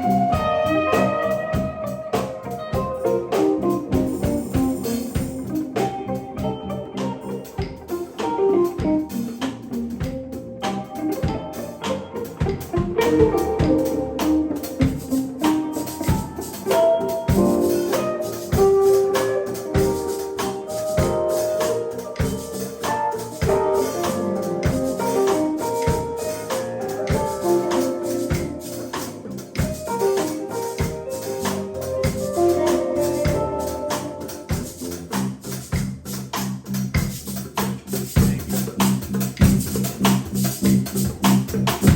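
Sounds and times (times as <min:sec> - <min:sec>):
live band instrumental jam: 0:00.0 - 0:41.9.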